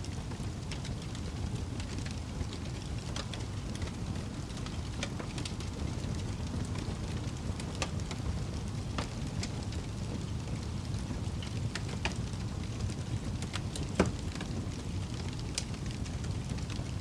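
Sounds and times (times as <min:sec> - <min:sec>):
fire popping and snapping: 0:00.0 - 0:17.0
wood fire rumbling: 0:00.0 - 0:17.0.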